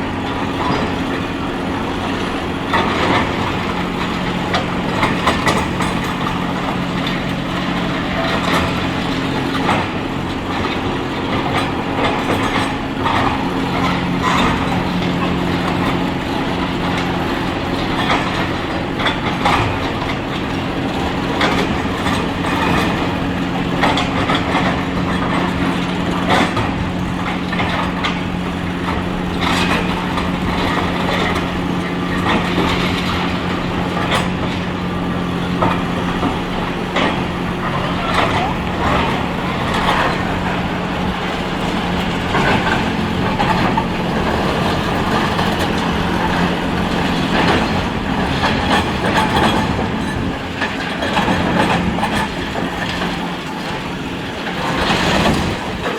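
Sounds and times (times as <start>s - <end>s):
excavator engine running: 0.0s - 55.9s.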